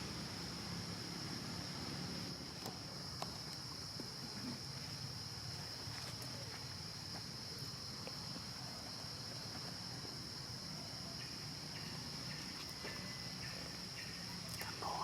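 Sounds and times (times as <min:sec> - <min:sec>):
insects chirping chorus: 0:00.0 - 0:15.0.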